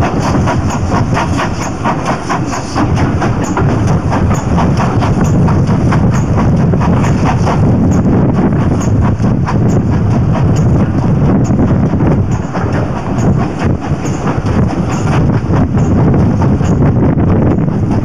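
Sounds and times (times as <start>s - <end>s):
steam locomotive exhaust beats: 0.0s - 18.0s
train wheels rumbling on rails: 0.0s - 18.0s.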